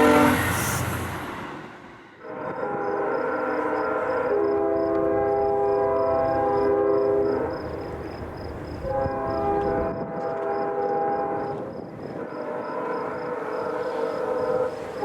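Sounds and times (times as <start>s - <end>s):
locomotive air horn blasts: 0.0s - 0.9s, 2.2s - 7.5s, 8.8s - 15.0s
low rumble of train: 0.0s - 15.0s.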